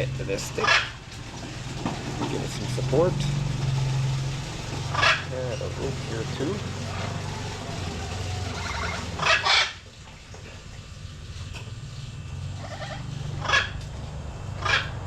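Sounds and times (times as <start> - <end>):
chickens clucking and squawking: 0.0 - 11.3, 12.5 - 13.8, 14.5 - 15.0.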